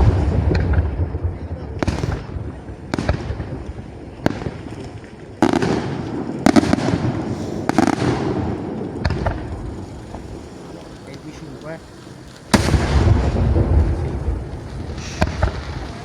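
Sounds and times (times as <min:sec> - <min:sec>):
fireworks bangs: 0:00.0 - 0:11.8, 0:12.4 - 0:16.0
fireworks crackling and rumbling: 0:00.0 - 0:16.0.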